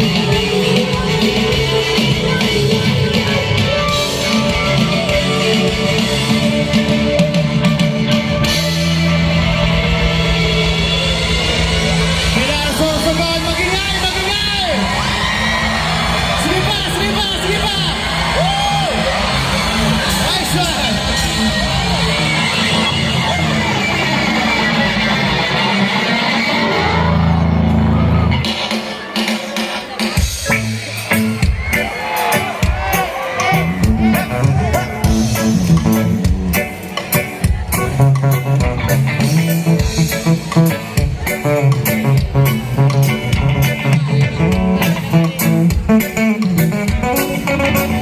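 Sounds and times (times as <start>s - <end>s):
electric guitar: 0.0s - 29.1s, 30.0s - 48.0s
live rock band playing: 0.0s - 48.0s.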